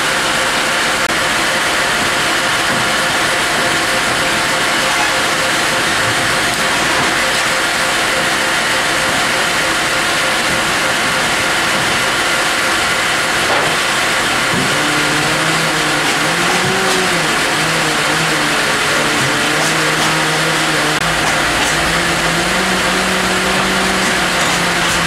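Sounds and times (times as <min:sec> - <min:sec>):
sawmill machinery running: 0:00.0 - 0:25.0
low wavering hum: 0:01.1 - 0:25.0.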